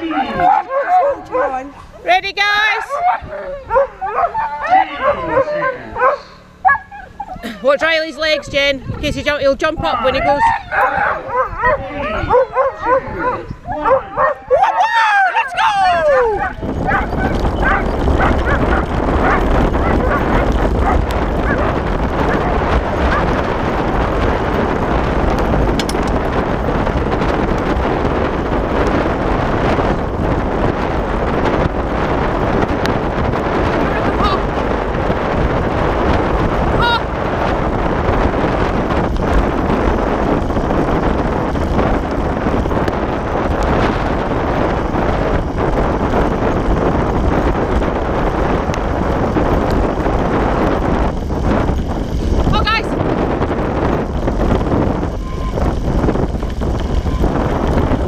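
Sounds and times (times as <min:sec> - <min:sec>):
wheel rumbling over dirt trail: 0:00.0 - 0:58.0
wind rushing over microphone: 0:00.0 - 0:58.0.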